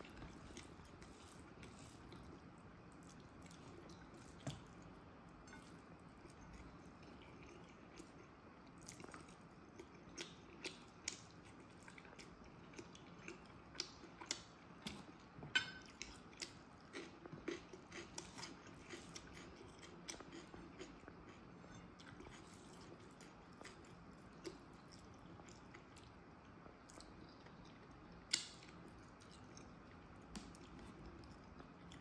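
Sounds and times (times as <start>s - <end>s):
quiet chewing: 0.0s - 32.0s.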